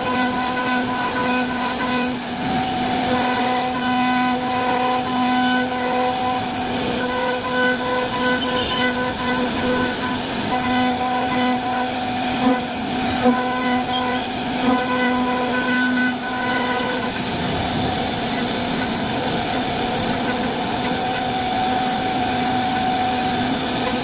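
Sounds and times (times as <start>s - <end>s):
router cutting wood: 0.0s - 24.0s
router spindle whining: 0.0s - 24.0s.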